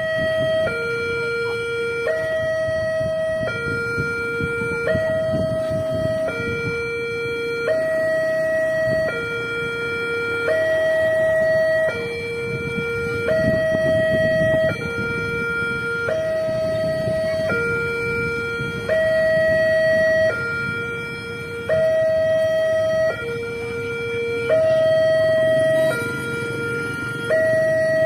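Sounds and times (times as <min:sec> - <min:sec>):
two-tone crossing alarm: 0:00.0 - 0:28.0.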